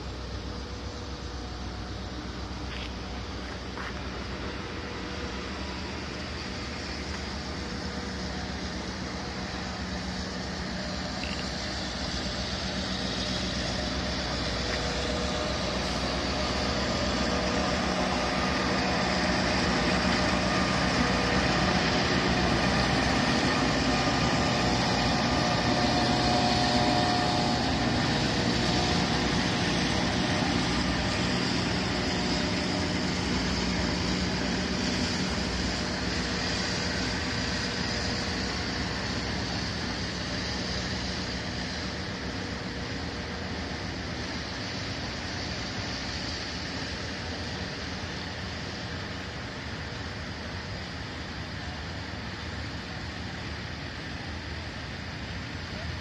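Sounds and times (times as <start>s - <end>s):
diesel locomotive engine drone: 0.0s - 56.0s
wheels rumbling on rails: 0.0s - 56.0s.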